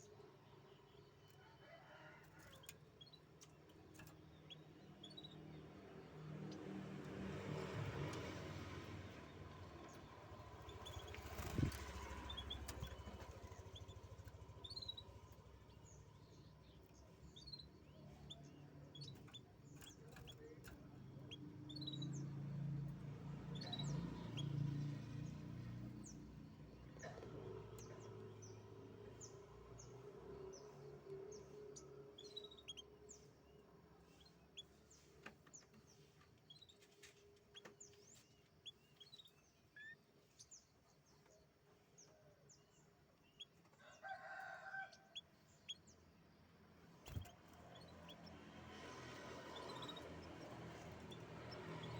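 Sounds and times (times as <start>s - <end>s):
canaries chirping: 2.5s - 6.6s, 9.1s - 26.2s, 26.9s - 46.0s, 46.8s - 51.9s.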